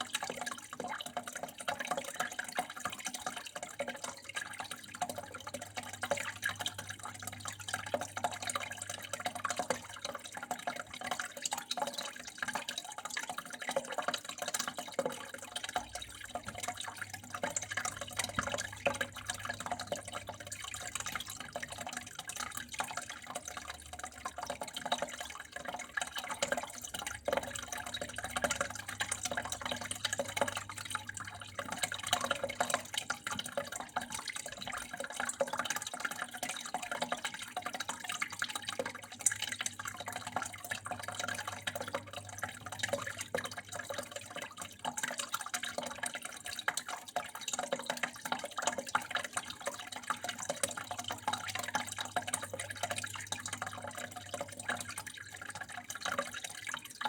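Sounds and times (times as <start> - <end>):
water running and dripping: 0.0 - 57.0.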